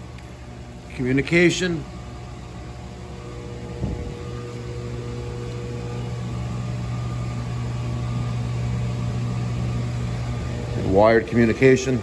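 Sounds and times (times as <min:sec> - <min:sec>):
air conditioning hum: 0:00.0 - 0:12.0.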